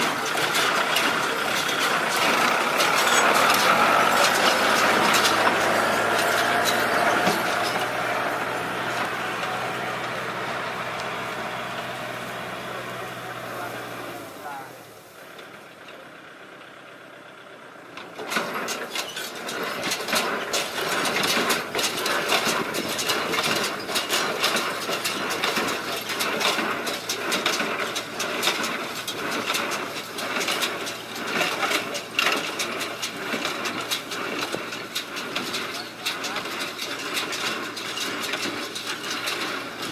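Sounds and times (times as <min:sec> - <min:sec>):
irregular clatter of knocks: 0:00.0 - 0:12.5, 0:18.0 - 0:39.9
tractor engine running: 0:00.0 - 0:39.9.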